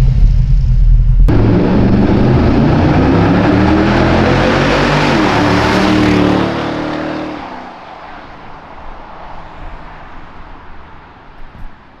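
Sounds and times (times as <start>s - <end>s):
car engine moving away: 1.3s - 12.0s
rushing noise of passing car: 1.3s - 12.0s.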